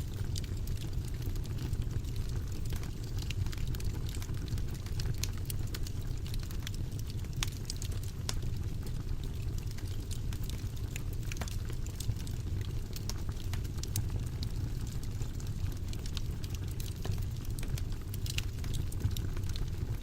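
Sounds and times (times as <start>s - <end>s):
fire crackling and popping: 0.0s - 20.0s
fire flames rumbling: 0.0s - 20.0s.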